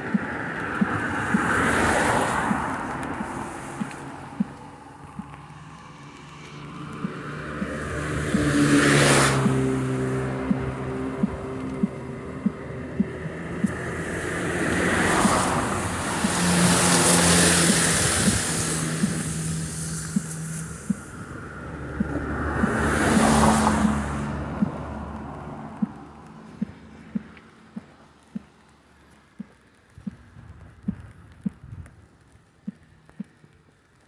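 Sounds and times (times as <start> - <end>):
footsteps walking: 0.0 - 33.5
low engine hum: 0.0 - 34.0
tyres hissing on wet road: 0.0 - 34.0.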